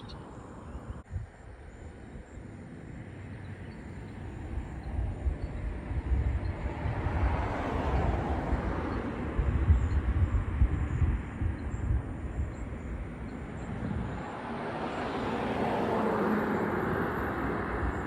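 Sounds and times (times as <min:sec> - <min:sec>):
passing vehicle rumble: 0:03.0 - 0:18.0.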